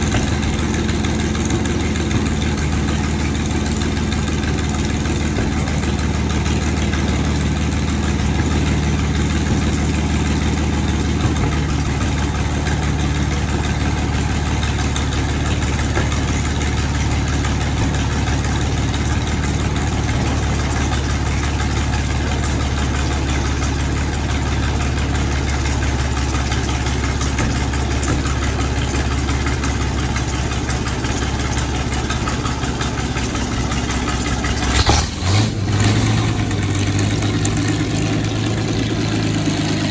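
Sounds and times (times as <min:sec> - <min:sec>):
tank engine idling: 0:00.0 - 0:39.9.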